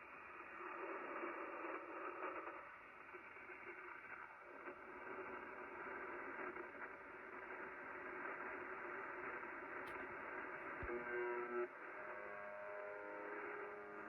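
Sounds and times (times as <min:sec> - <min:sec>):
shortwave static hiss: 0:00.0 - 0:14.0.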